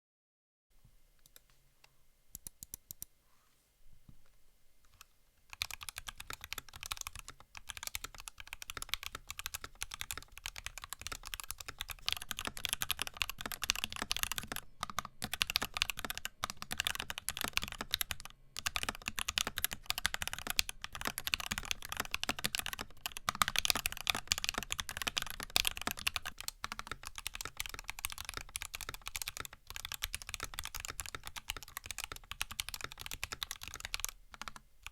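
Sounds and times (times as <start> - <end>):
mechanical keyboard typing: 4.9 - 34.9.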